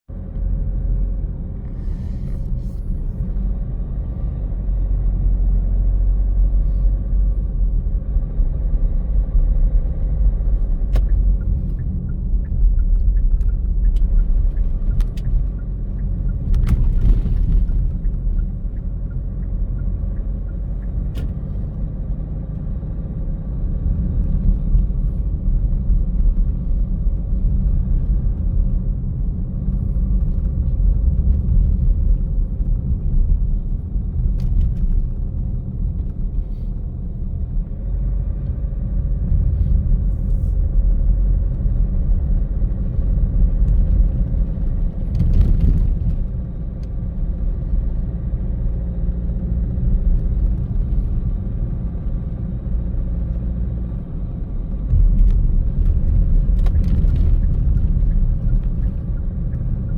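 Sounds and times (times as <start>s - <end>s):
tyre and engine rumble: 0.1s - 59.9s.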